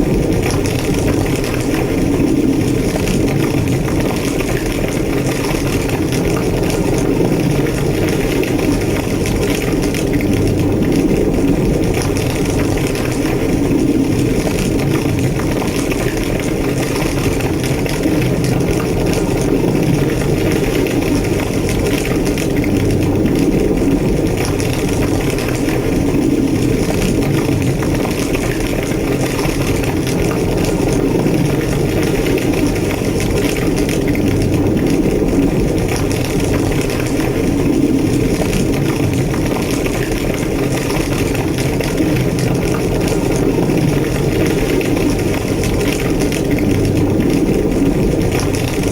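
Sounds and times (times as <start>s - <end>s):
large fire roaring and crackling: 0.0s - 48.9s.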